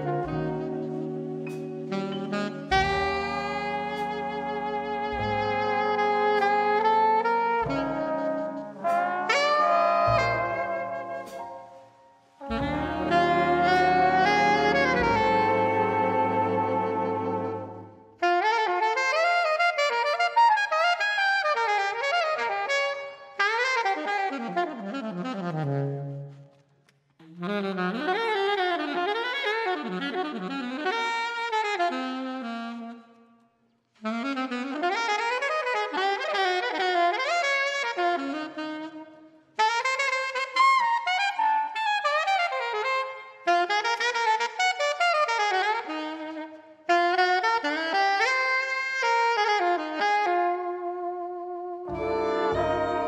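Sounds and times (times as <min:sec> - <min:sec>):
alto saxophone jazz solo: 0:00.0 - 0:53.0.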